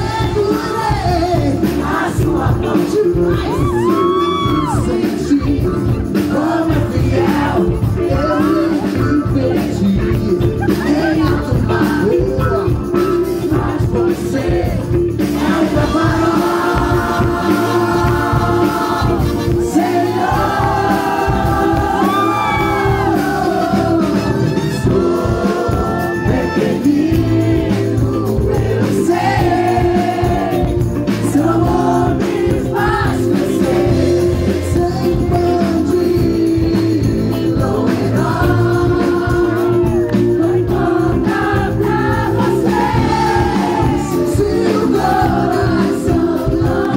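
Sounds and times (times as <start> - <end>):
live band playing pop: 0.0 - 46.9
male lead singer: 0.0 - 46.9.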